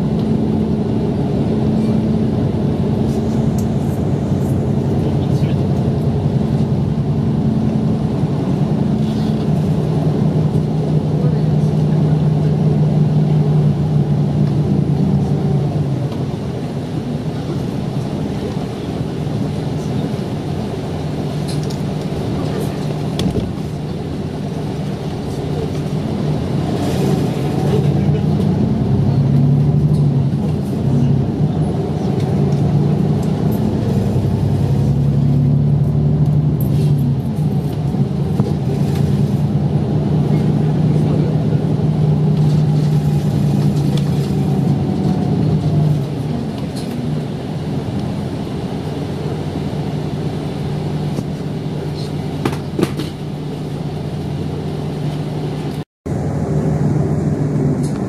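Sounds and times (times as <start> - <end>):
bus engine humming: 0.0 - 58.0
road noise: 0.0 - 58.0.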